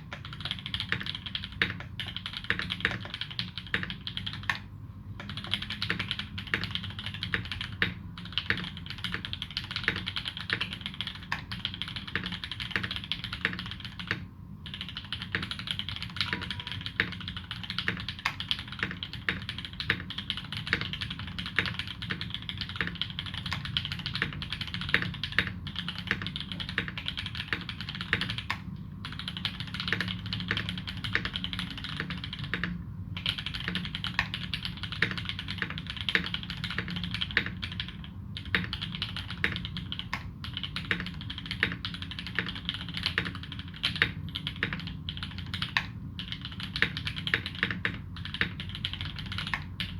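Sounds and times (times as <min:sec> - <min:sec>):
mechanical keyboard typing: 0:00.0 - 0:49.9.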